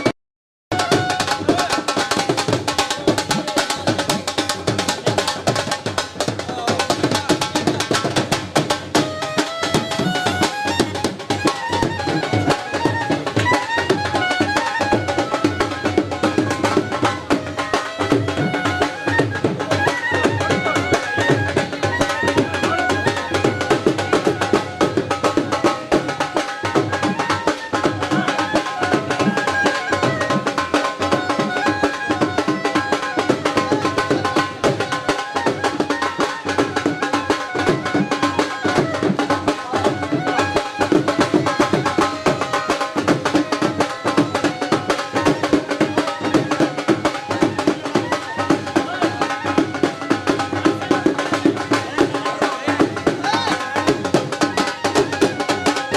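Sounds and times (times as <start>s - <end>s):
drums in fast rhythm: 0.7s - 55.9s.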